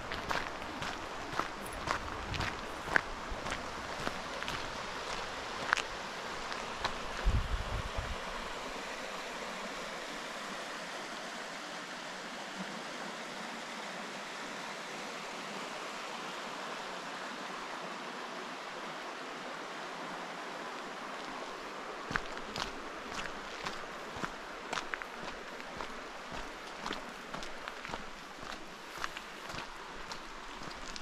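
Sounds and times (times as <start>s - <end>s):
rush of flowing water: 0.0s - 31.0s.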